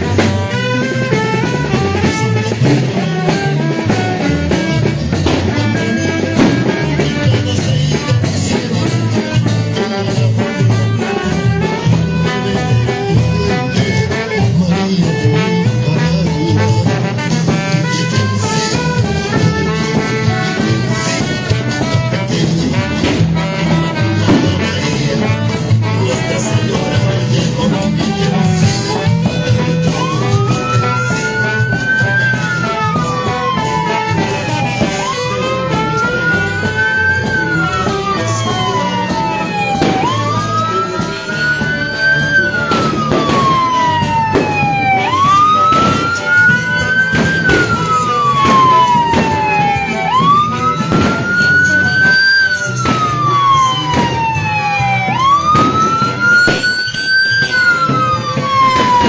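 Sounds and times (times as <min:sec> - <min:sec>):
emergency vehicle siren wailing: 0:00.0 - 0:59.0
music: 0:00.0 - 0:59.0.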